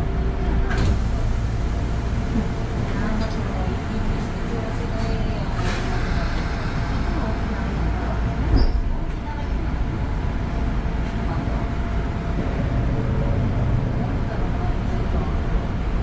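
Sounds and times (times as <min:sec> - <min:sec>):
electric train running on rails: 0:00.0 - 0:16.0.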